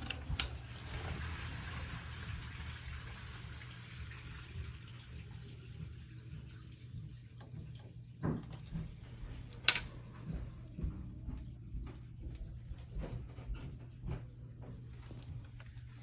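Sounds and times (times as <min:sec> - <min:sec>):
water running and dripping: 0:00.0 - 0:16.0.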